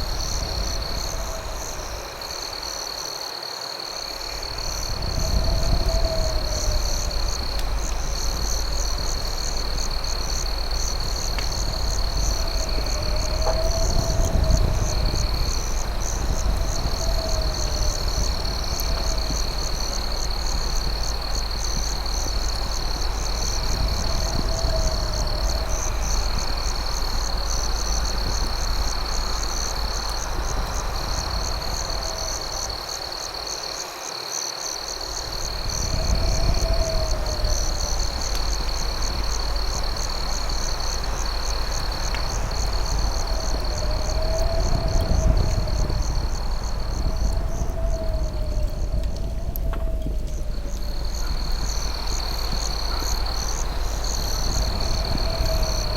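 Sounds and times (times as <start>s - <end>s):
campfire rumble: 0.0s - 55.9s
crickets trilling and chirping: 0.0s - 55.9s
faint fire crackle: 0.0s - 55.9s.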